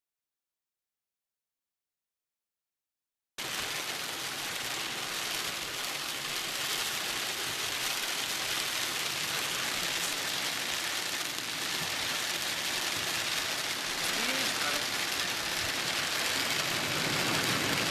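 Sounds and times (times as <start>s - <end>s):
heavy rain pouring: 3.4s - 17.9s.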